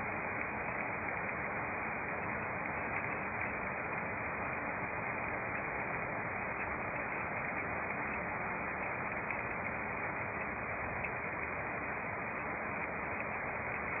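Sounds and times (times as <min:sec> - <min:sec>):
heavy rain on a road: 0:00.0 - 0:14.0.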